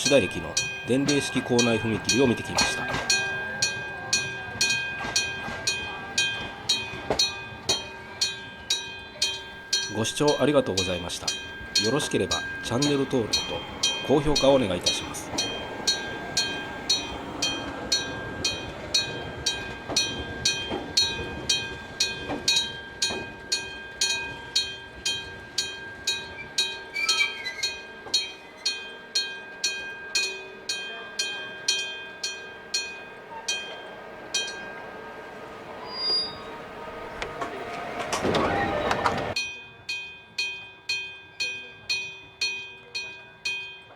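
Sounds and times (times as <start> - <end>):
level-crossing bell ringing: 0.0 - 43.9.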